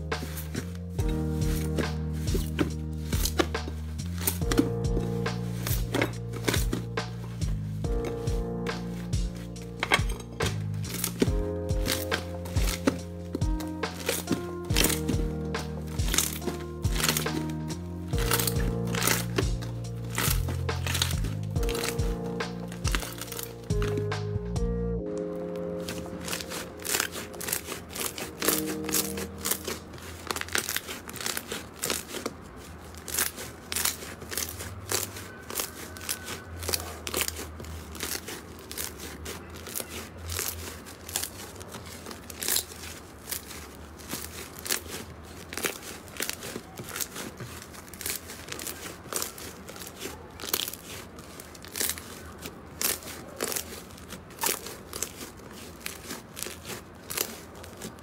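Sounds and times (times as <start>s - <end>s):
slime crackling and popping: 0.0s - 58.0s.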